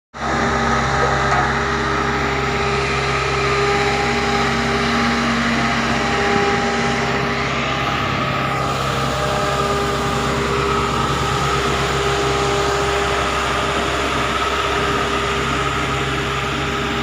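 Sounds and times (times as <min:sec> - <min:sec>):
diesel engine running: 0:00.2 - 0:17.0.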